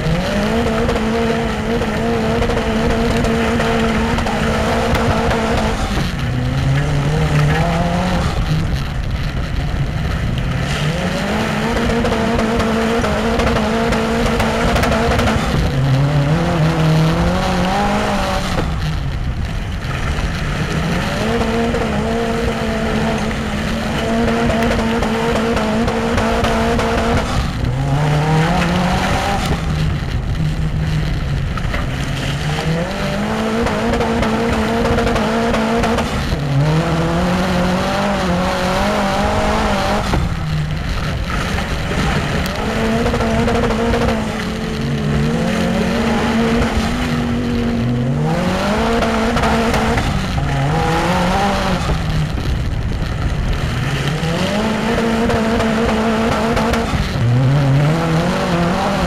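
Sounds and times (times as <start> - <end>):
racing car engine revving: 0.0 - 59.0
tyre and track noise: 0.0 - 59.0.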